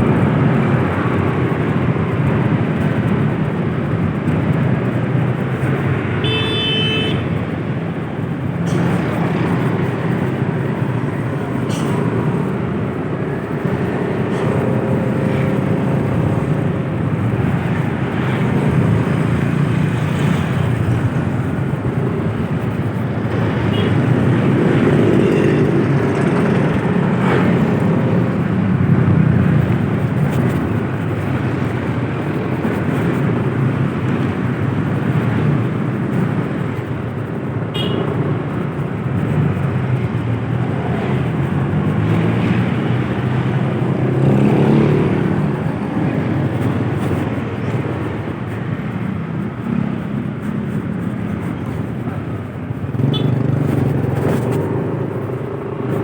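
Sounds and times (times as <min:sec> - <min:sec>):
vehicle engine and road noise: 0:00.0 - 0:56.0
wind: 0:00.0 - 0:56.0.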